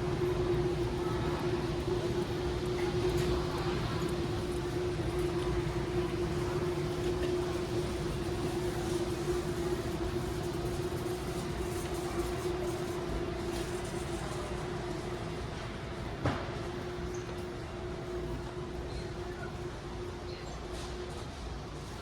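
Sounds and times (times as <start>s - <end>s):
mechanical hum: 0.0s - 22.0s
store background noise: 0.0s - 22.0s.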